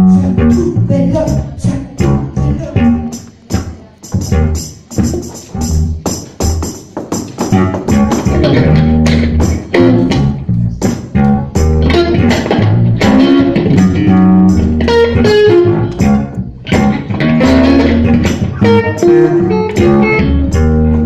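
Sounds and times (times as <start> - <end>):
bass guitar line: 0.0 - 6.7, 7.4 - 21.0
blues guitar sliding notes: 0.0 - 21.0.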